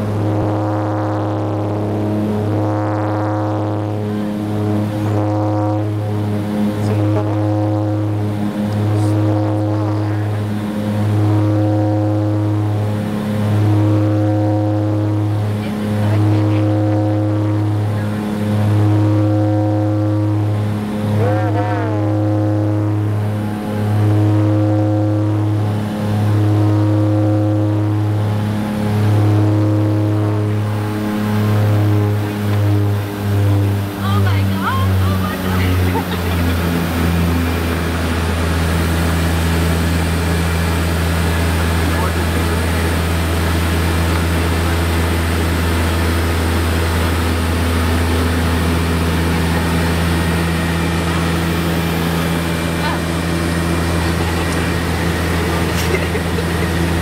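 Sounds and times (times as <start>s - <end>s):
plane engines droning in cabin: 0.0s - 57.0s.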